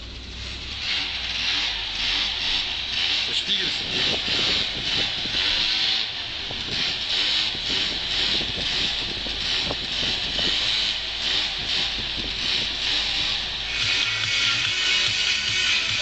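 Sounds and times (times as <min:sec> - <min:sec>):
scooter engine running: 0:00.0 - 0:16.0
wind and road noise: 0:00.0 - 0:16.0.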